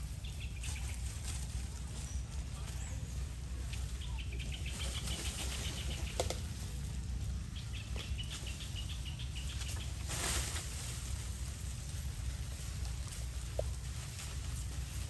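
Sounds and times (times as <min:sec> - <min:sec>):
leaves rustling: 0:00.0 - 0:15.0
low rumble: 0:00.0 - 0:15.0.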